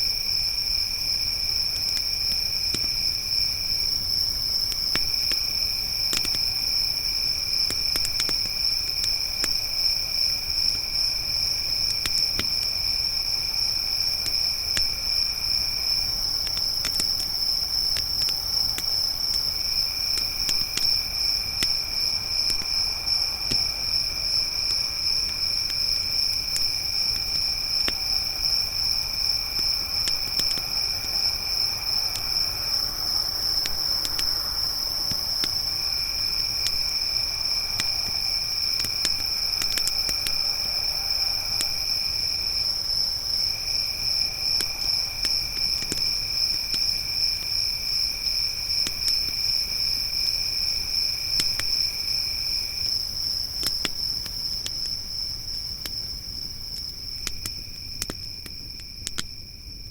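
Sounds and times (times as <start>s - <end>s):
crickets trilling: 0.0s - 59.9s
lower insect trill: 0.0s - 59.9s
campfire crackling and popping: 0.3s - 59.6s.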